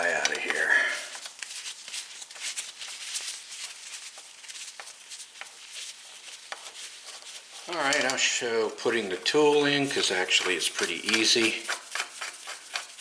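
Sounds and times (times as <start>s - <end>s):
hands rustling: 0.0s - 13.0s.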